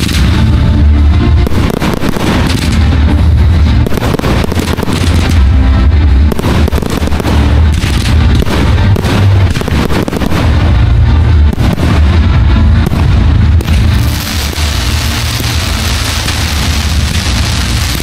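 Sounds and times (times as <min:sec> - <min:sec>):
fireworks bursting and crackling: 0:00.0 - 0:18.0
music with strong bass: 0:00.0 - 0:18.0.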